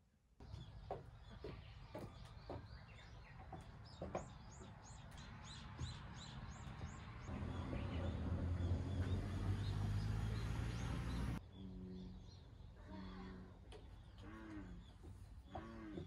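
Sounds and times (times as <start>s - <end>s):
birds calling: 0.4s - 16.0s.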